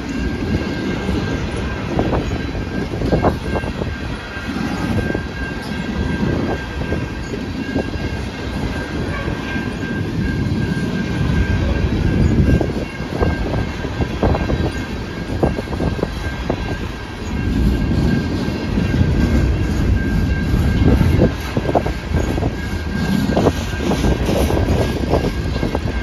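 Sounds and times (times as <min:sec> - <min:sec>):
train rumbling past: 0:00.0 - 0:26.0.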